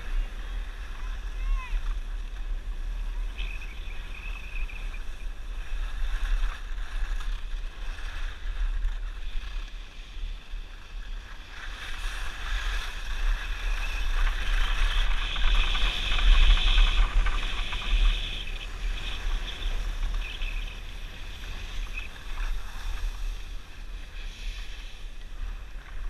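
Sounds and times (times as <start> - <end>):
skis scraping over snow: 0.0 - 26.0
wind buffeting microphone: 0.0 - 26.0.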